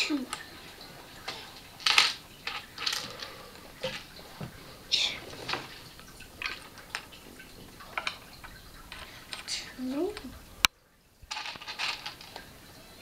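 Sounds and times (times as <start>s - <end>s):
plastic bricks clicking and clattering: 0.0s - 7.2s, 7.8s - 10.7s, 11.3s - 13.0s.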